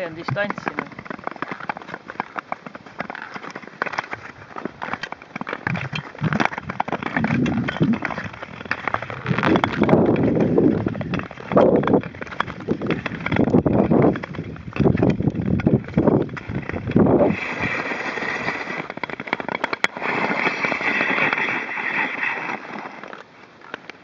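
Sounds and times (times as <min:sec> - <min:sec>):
ice clicks and crackles: 0:00.0 - 0:24.0
skate blades scraping on ice: 0:00.0 - 0:24.0.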